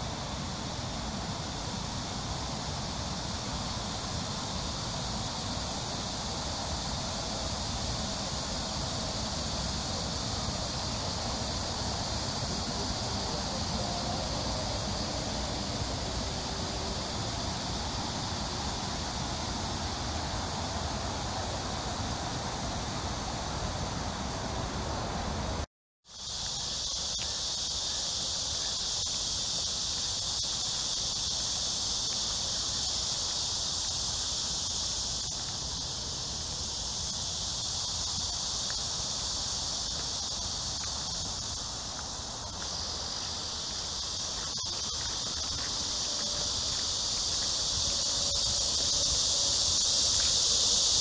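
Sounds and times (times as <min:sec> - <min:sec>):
cicadas buzzing: 0:00.0 - 0:51.0.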